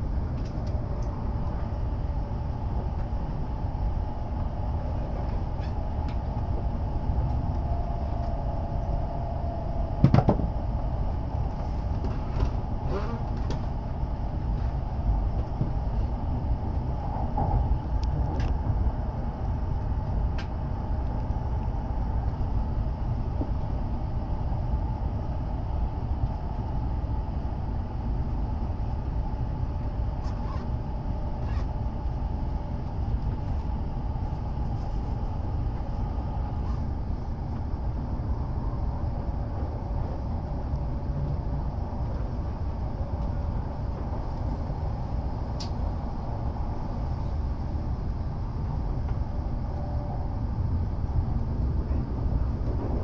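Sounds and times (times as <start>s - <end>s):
train rumble inside passenger car: 0.0s - 53.0s.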